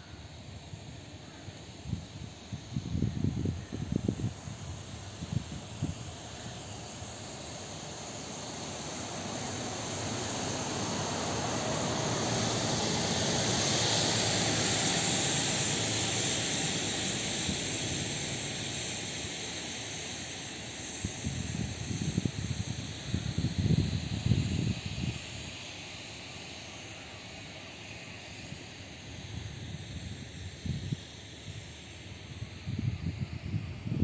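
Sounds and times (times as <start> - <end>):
jet aircraft passing over: 0.0 - 34.0.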